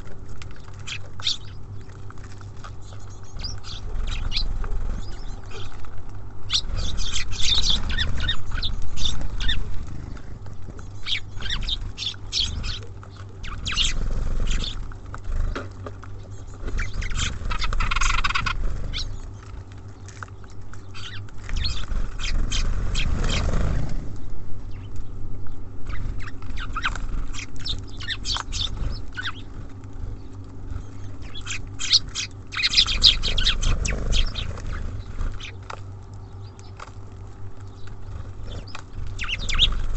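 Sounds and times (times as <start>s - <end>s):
birds pecking and tapping: 0.0s - 39.9s
bird chirping call: 0.4s - 2.0s, 2.6s - 5.8s, 6.5s - 14.9s, 16.2s - 23.6s, 24.7s - 36.8s, 37.6s - 39.9s.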